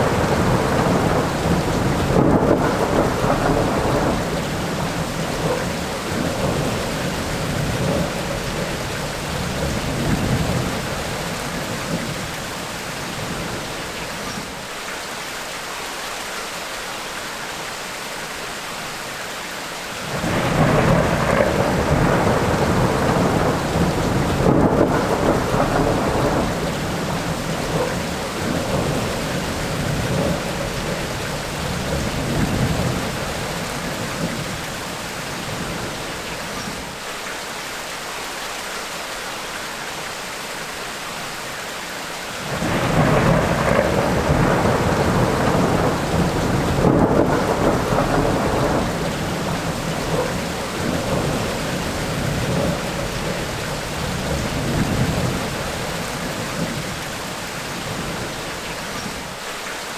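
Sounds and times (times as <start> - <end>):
thunder rumbling: 0.0 - 14.4, 20.0 - 37.0, 42.4 - 59.4
steady rain falling: 0.0 - 59.9.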